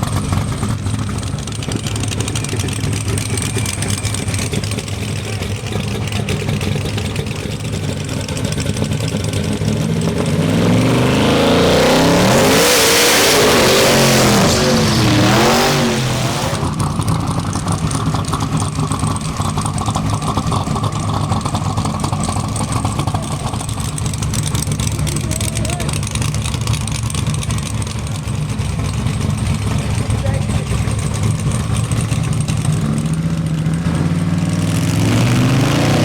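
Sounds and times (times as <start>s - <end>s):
drag racing engines at full throttle: 0.0s - 36.0s.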